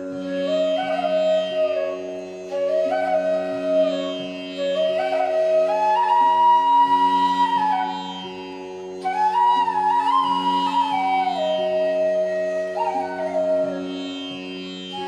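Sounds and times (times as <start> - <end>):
flute playing slow notes: 0.0 - 15.0.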